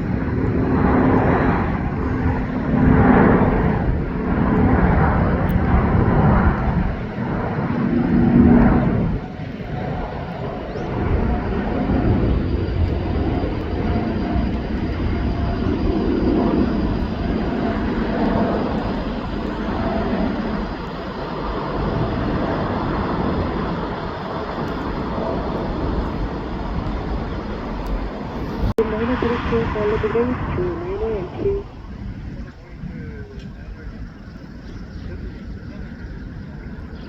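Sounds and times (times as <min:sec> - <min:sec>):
jet airliner engines rumbling: 0:00.0 - 0:37.0.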